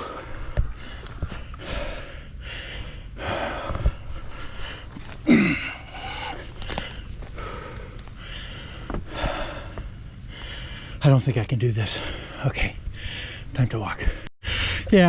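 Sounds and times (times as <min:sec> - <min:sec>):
person breathing hard: 0:00.0 - 0:11.0, 0:12.0 - 0:14.9.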